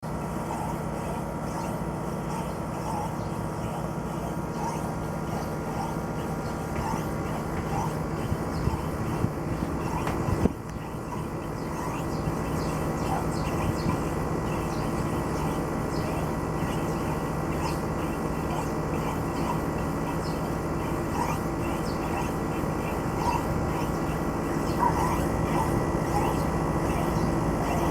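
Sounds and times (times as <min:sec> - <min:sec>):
air conditioner unit humming: 0:00.0 - 0:27.9.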